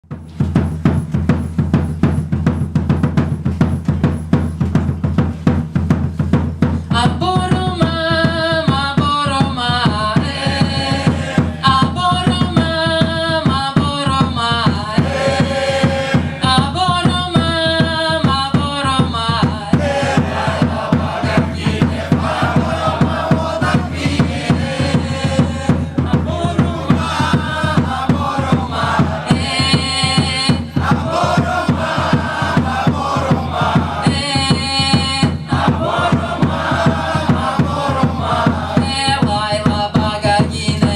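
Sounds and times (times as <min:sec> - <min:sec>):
bass drum and snare beat: 0:00.0 - 0:40.9.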